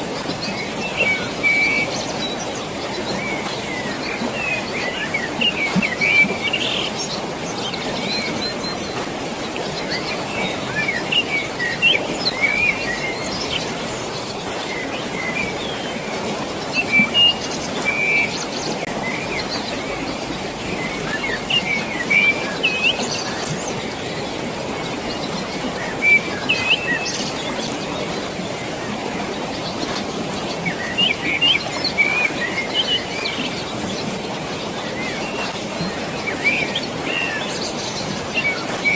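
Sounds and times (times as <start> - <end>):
flowing water rushing: 0.0 - 38.9
songbirds chirping: 0.0 - 38.9.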